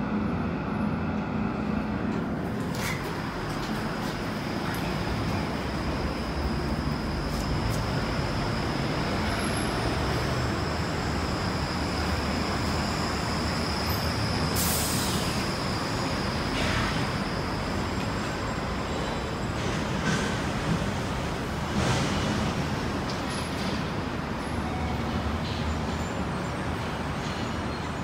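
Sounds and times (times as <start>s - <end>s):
city road traffic: 0.0s - 28.0s.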